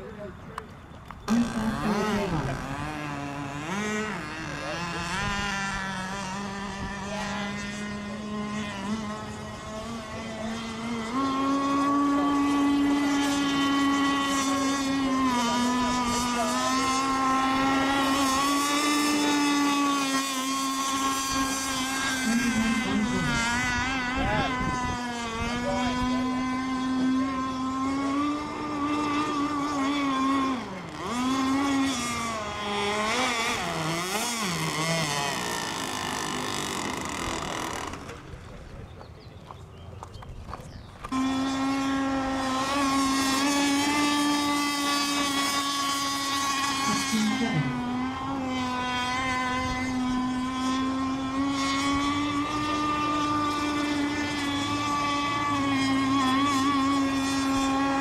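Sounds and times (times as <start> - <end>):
model boat motor droning: 0.0 - 58.0.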